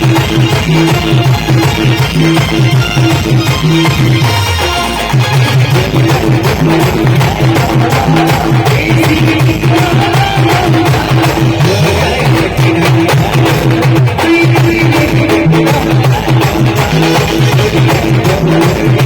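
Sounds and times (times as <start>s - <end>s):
drums keeping the beat: 0.0s - 19.0s
live band playing: 0.0s - 19.0s
repeating bass pattern: 0.0s - 19.0s.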